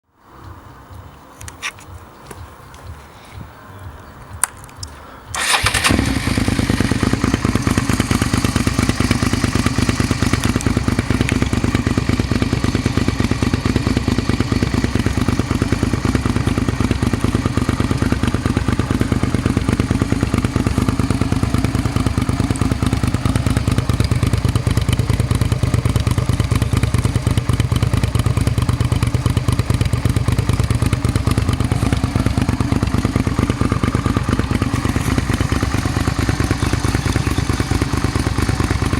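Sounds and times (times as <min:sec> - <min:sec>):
motorcycle engine starting and idling: 0:04.5 - 0:38.9.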